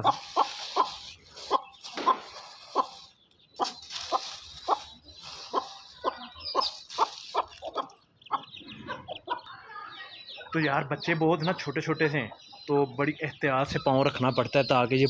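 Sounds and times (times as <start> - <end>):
chicks peeping: 0.0 - 15.0
hen clucking: 0.0 - 15.0.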